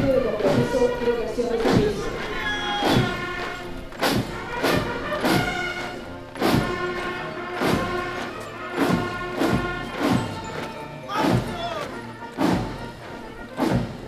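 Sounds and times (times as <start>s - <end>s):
strong drum beat: 0.0s - 10.5s, 11.2s - 11.8s, 12.4s - 14.0s
military band march: 0.0s - 14.0s.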